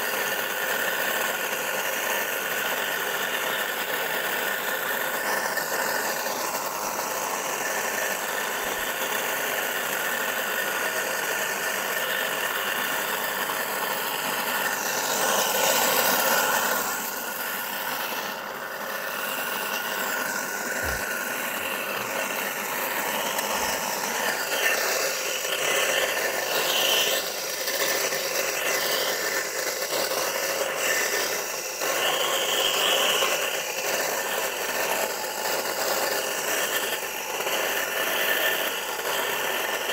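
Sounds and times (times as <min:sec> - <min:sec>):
cutter digging through dry soil: 0:00.0 - 0:39.9
electric motor running: 0:00.0 - 0:39.9.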